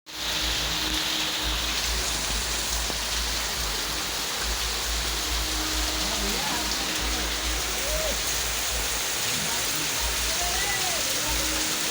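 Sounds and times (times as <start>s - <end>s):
heavy rain hissing: 0.1s - 11.9s.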